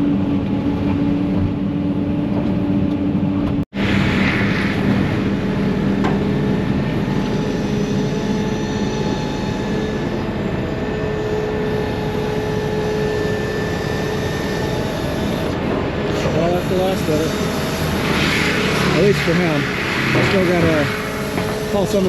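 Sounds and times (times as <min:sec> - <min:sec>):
diesel engine droning: 0:00.0 - 0:22.0
faint engine whine: 0:00.0 - 0:22.0.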